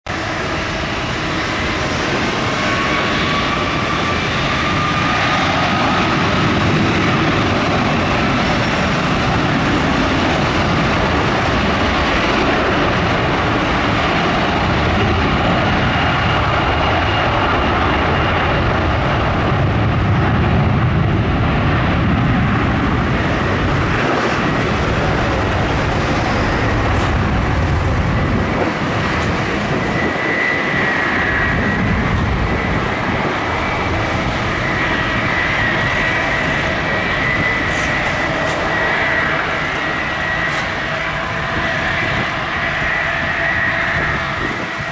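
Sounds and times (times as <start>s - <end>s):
jet engine roar: 0.1s - 44.9s.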